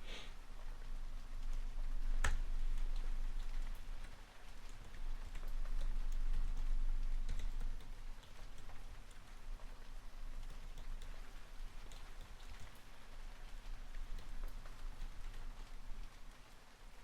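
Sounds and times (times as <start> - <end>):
rain pattering: 0.3 - 17.0.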